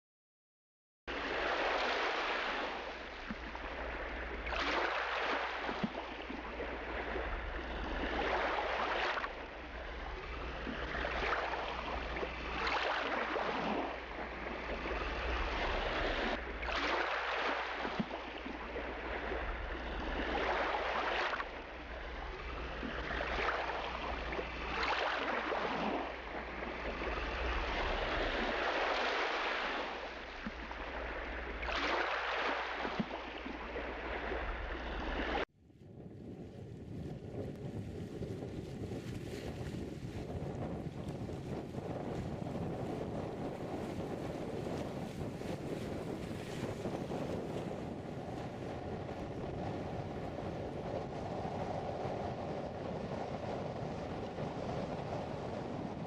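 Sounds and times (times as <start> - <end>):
water rushing along boat hull: 1.1 - 56.0.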